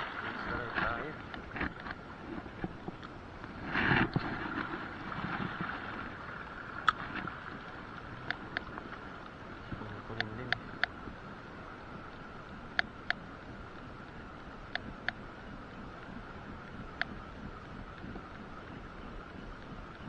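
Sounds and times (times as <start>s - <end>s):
water lapping: 0.0s - 20.0s
wind: 0.0s - 20.0s.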